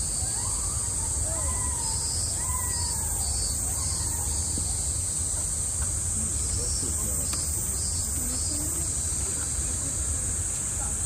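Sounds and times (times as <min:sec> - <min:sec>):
cicadas shrilling: 0:00.0 - 0:11.0
pulsing insect call: 0:00.0 - 0:11.0.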